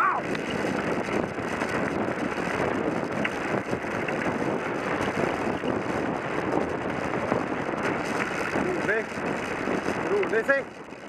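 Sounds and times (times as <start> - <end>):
bicycle tyres on gravel: 0.0 - 11.0
wind on microphone: 0.0 - 11.0.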